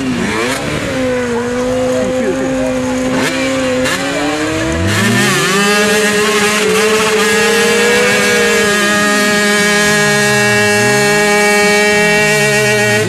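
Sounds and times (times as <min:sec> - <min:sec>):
motorcycle engine revving: 0:00.0 - 0:13.0
motorcycle passing by: 0:00.0 - 0:13.0.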